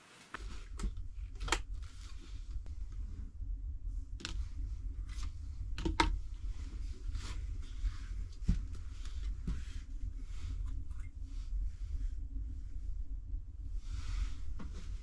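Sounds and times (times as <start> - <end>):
steady low rumble: 0.4 - 15.0.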